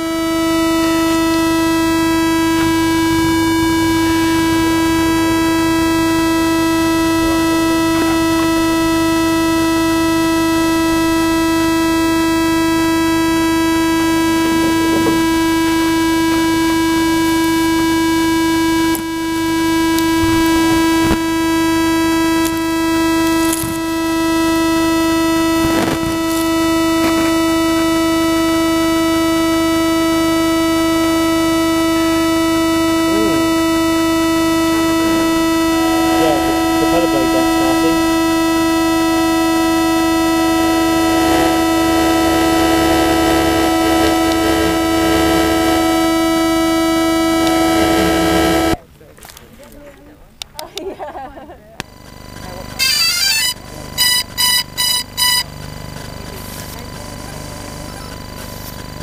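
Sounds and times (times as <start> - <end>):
loud steady buzzing tone: 0.0 - 48.9, 51.8 - 59.0.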